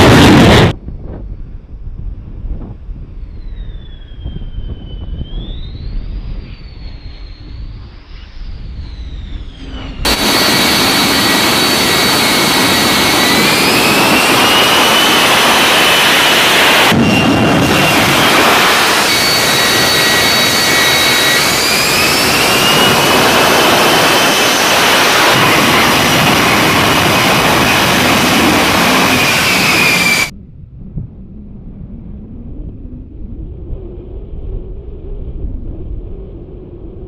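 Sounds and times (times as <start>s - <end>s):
jet engine rushing with high whine: 0.0s - 37.0s.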